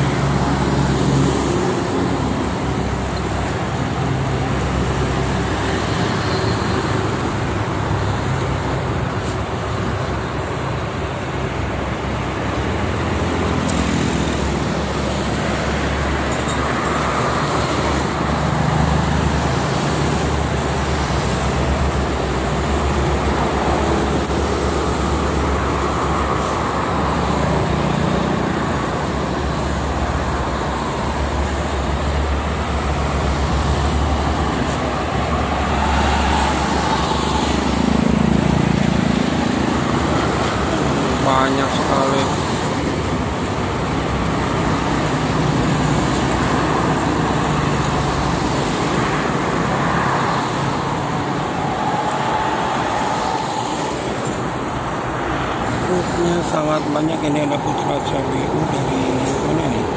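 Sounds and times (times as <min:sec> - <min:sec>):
heavy motorway traffic: 0:00.0 - 0:59.9.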